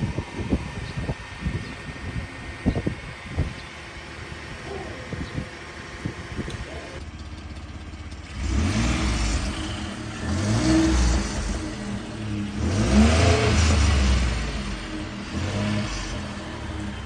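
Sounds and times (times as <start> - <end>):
engine exhaust revving: 0.0 - 17.0.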